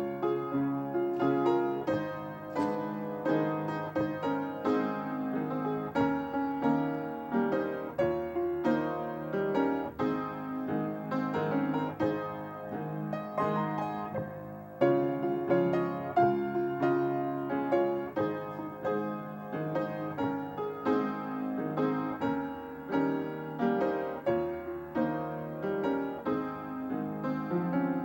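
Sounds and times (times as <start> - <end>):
slow piano piece: 0.0 - 28.0.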